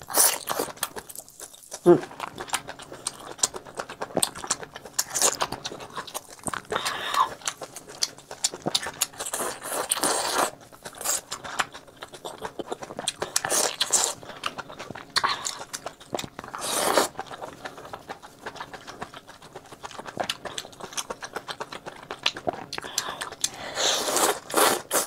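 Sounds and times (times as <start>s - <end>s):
man chewing food: 0.0s - 25.0s.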